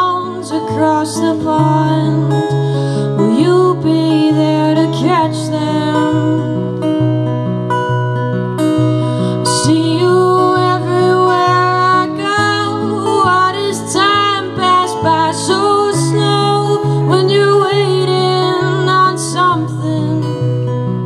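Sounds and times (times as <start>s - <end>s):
woman singing: 0.0s - 7.1s, 9.3s - 21.0s
acoustic guitar: 0.0s - 21.0s.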